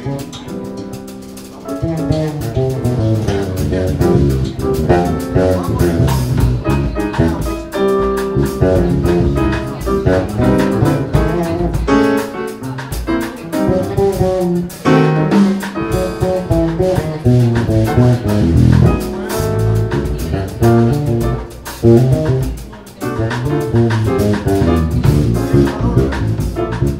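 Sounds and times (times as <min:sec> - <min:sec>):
jazz trio playing: 0:00.0 - 0:26.9.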